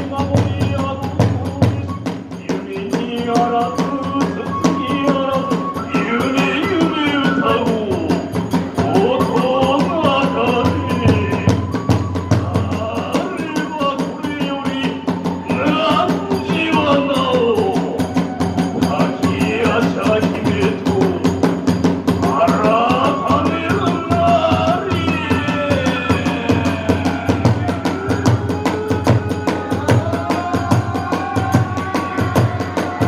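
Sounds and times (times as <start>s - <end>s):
drums and hand cymbals: 0.0s - 33.0s.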